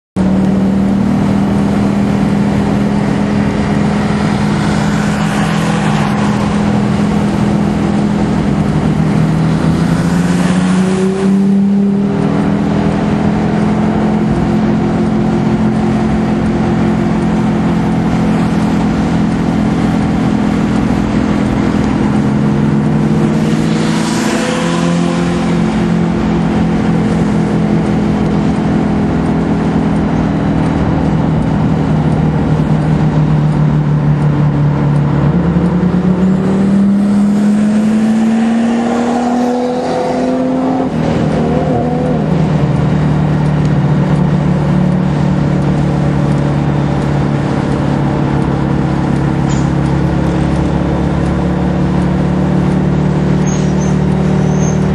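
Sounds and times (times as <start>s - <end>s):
car engine running hard: 0.2s - 54.9s
wind and road noise: 0.2s - 54.9s.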